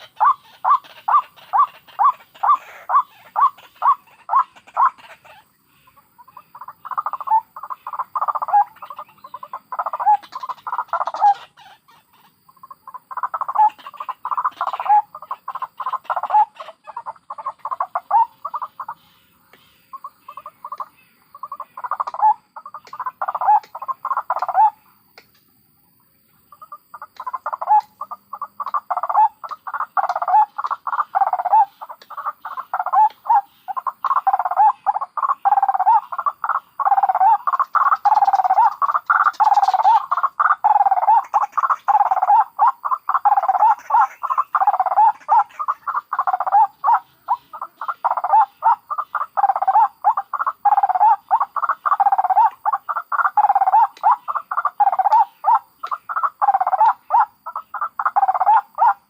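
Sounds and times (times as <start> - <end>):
waterhens croaking calls: 0.0 - 25.3, 26.3 - 59.0.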